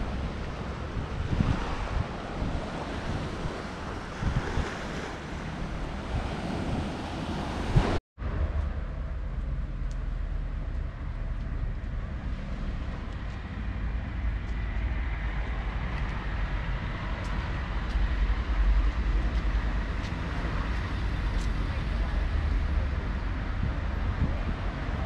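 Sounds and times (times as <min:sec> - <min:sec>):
road traffic rumble: 0:00.0 - 0:25.0
wind on microphone: 0:00.0 - 0:25.0.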